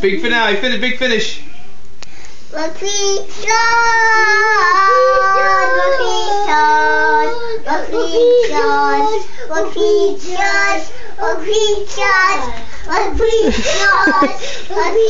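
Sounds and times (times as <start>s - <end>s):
young children singing: 2.6s - 15.0s.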